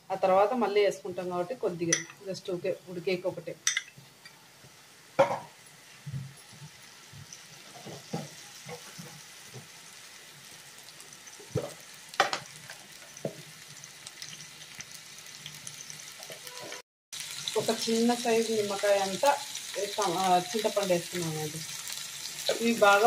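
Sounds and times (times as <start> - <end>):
tomatoes sizzling in a pan: 0.0 - 23.0.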